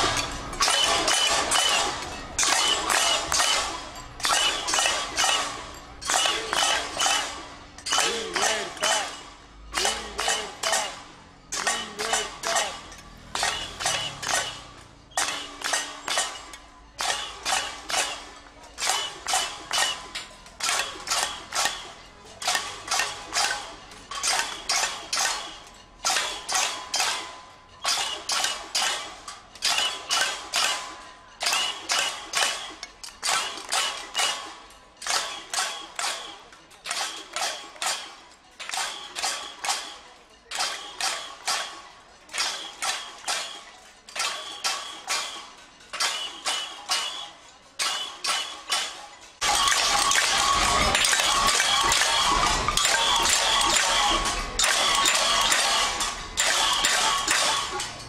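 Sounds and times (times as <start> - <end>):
metal pot beaten with spoon: 0.0 - 58.0.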